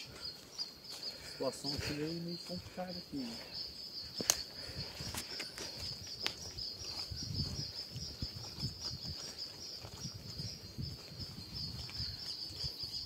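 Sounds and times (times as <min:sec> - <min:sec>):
insect chorus trilling: 0:00.0 - 0:13.0.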